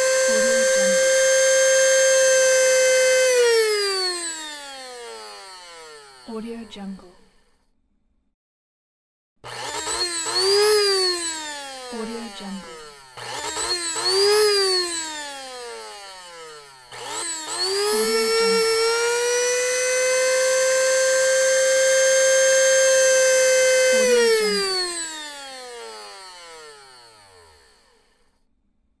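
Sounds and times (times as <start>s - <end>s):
electric coffee grinder: 0.0s - 7.5s, 9.4s - 28.3s.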